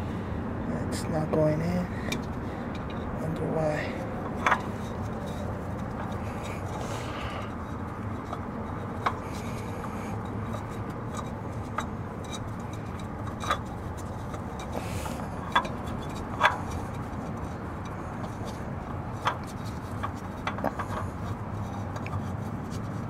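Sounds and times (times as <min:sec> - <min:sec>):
steady background noise: 0:00.0 - 0:23.0
oil filter clicks and knocks: 0:02.0 - 0:03.1, 0:04.2 - 0:06.8, 0:07.4 - 0:22.3.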